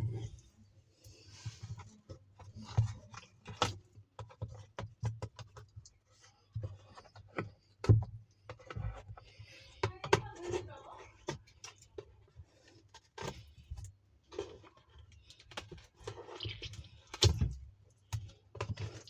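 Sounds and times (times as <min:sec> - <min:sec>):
plastic parts clicking and scraping: 0:00.0 - 0:19.0.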